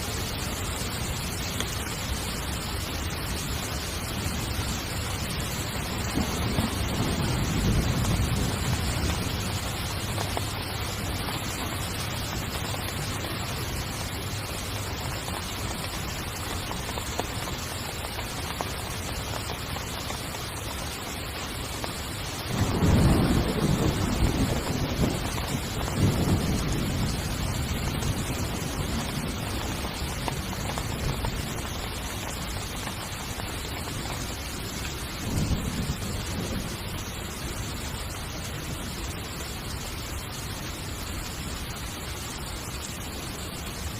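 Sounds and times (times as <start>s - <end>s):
heavy rain on a tent: 0.0s - 43.9s.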